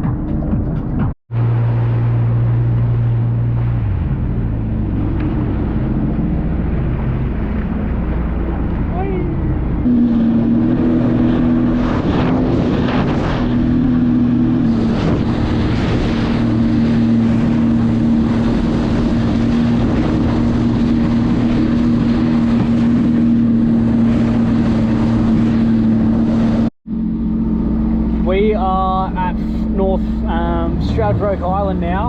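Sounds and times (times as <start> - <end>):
wind on microphone: 0.0 - 28.3
jet ski engine drone: 0.0 - 32.0
rushing water: 1.3 - 32.0.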